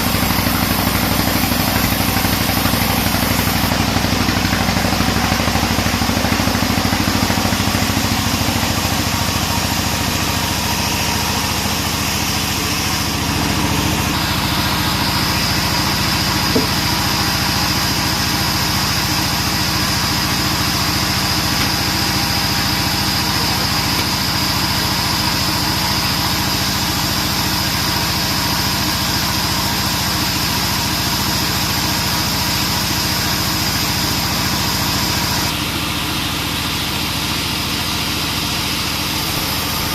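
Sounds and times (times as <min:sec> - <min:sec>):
saw blade whine cutting log: 0:00.0 - 0:39.9
sawmill machine drone: 0:00.0 - 0:39.9.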